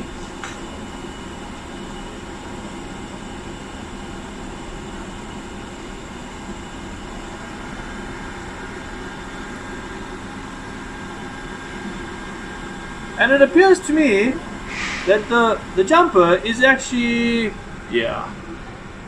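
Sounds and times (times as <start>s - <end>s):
fan humming: 0.0s - 19.0s.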